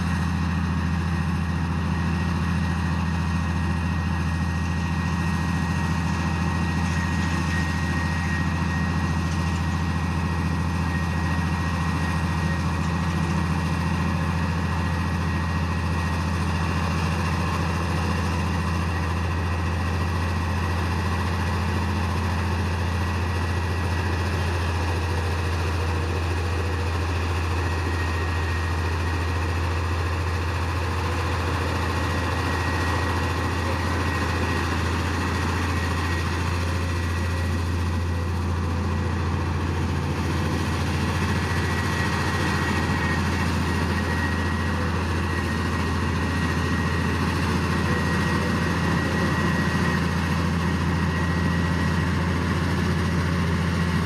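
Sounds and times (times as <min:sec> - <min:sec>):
heavy diesel engine drone: 0:00.0 - 0:54.0
faint high whine: 0:02.0 - 0:54.0.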